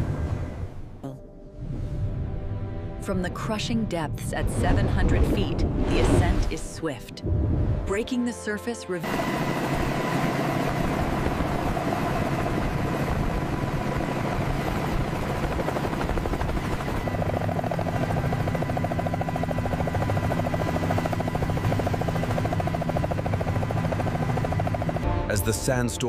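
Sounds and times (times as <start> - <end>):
helicopter whine: 2.6 - 26.0.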